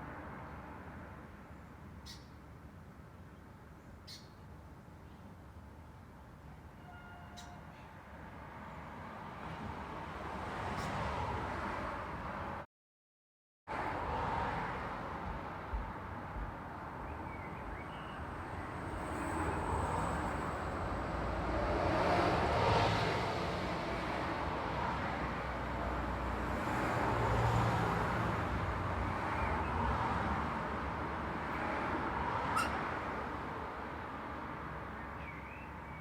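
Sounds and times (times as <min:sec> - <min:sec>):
road traffic: 0:00.0 - 0:12.7, 0:13.7 - 0:36.0.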